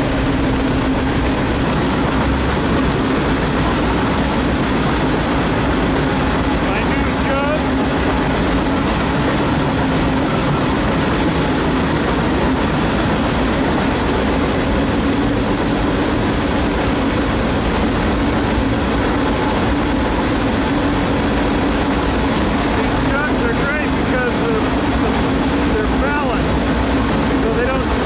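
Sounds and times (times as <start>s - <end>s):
freight train rumble: 0.0s - 28.0s.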